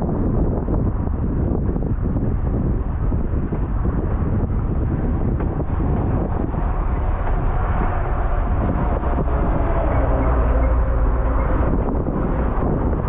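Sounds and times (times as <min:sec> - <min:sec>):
vehicle rumble: 0:00.0 - 0:13.0
wind noise on microphone: 0:00.0 - 0:13.0.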